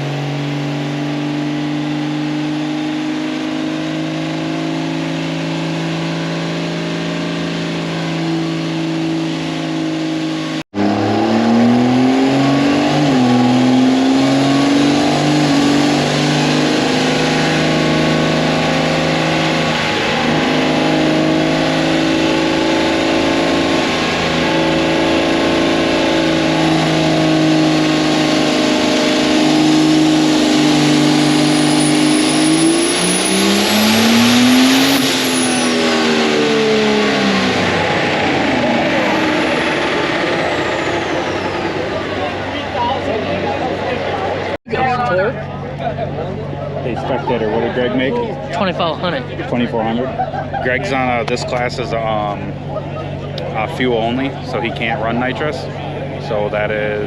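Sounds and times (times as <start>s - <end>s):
truck engine running hard: 0.0s - 57.0s.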